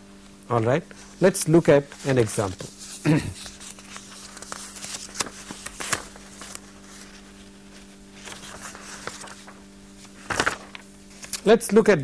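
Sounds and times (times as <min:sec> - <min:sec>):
steady low hum: 0:00.0 - 0:12.0
papers rustling: 0:01.2 - 0:11.5.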